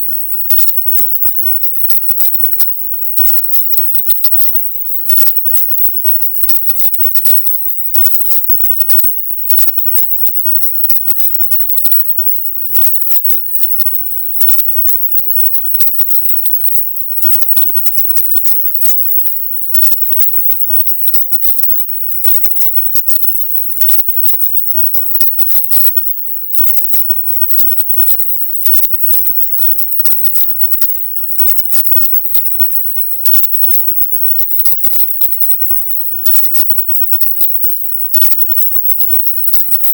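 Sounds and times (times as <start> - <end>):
high-pitched choppy hiss: 0.0 - 39.9.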